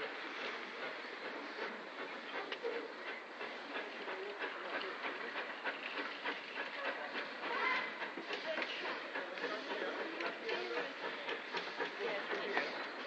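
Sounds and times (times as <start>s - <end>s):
steam locomotive rushing clatter: 0.0s - 13.0s.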